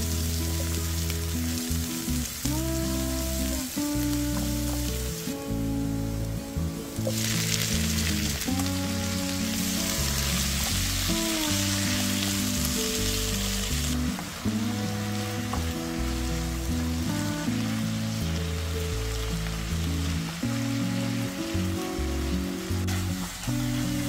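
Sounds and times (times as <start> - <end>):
background music: 0.0 - 24.0
food sizzling in a frying pan: 0.0 - 24.0.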